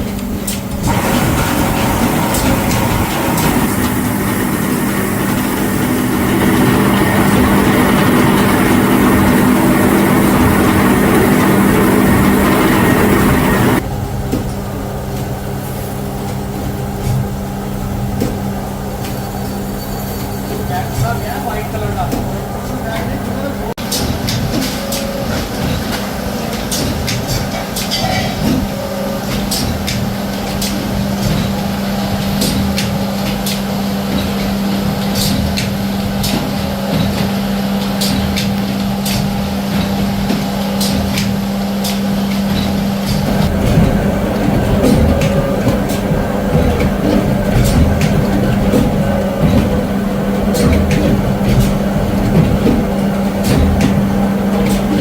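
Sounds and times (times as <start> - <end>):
factory machine humming: 0.0 - 55.0.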